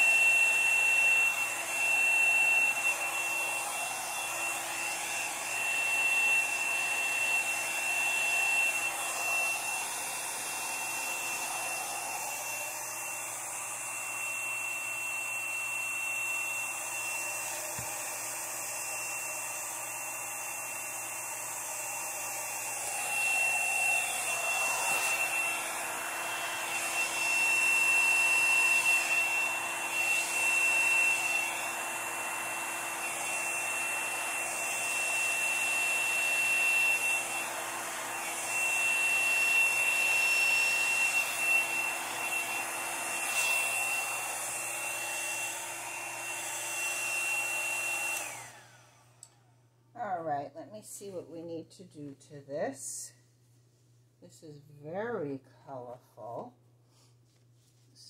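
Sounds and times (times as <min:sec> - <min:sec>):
hair dryer whine and air rush: 0:00.0 - 0:49.7.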